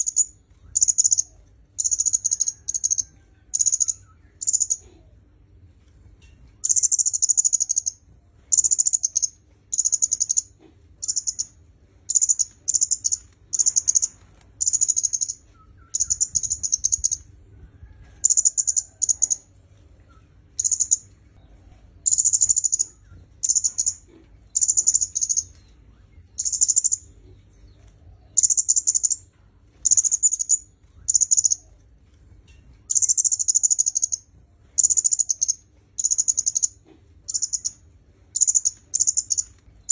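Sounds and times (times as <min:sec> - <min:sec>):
bird singing high chattering: 0:00.0 - 0:04.9, 0:06.6 - 0:17.3, 0:18.2 - 0:19.4, 0:20.1 - 0:21.2, 0:22.0 - 0:27.2, 0:28.4 - 0:31.7, 0:32.9 - 0:39.9.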